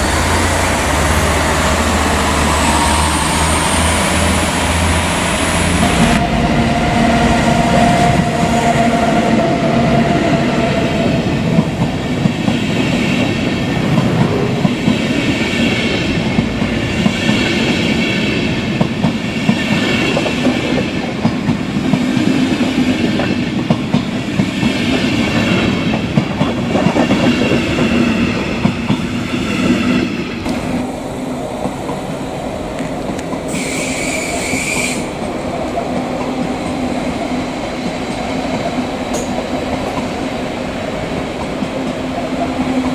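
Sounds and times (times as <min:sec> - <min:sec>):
train rumbling on tracks: 0:00.0 - 0:42.9.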